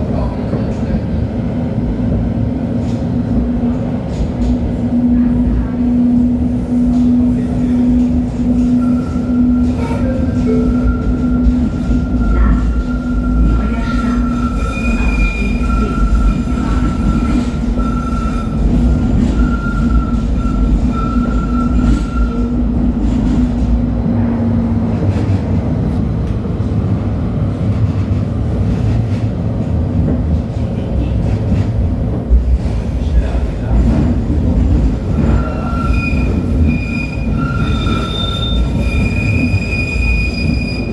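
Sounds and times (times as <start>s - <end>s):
tram whining: 0.0s - 40.9s
wheels rumbling on rails: 0.0s - 40.9s.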